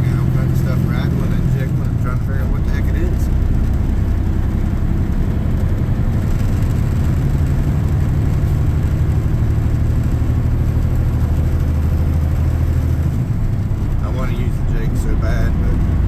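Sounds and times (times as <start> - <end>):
road noise: 0.0 - 16.0
truck engine droning: 0.0 - 16.0.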